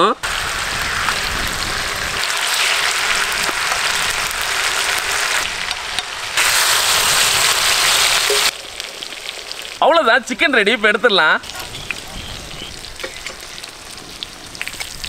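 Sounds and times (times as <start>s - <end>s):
chicken frying in sizzling oil: 0.2s - 10.4s, 11.4s - 15.0s.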